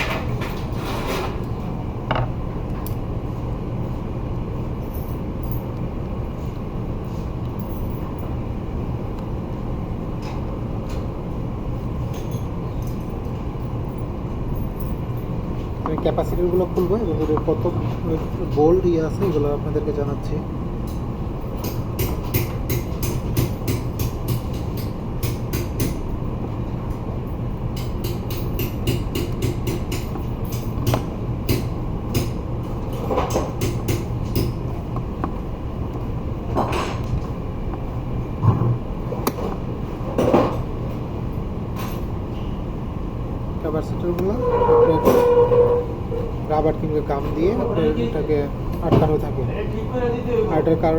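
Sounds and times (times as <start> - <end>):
mechanical rumble with low hum: 0.0 - 50.9.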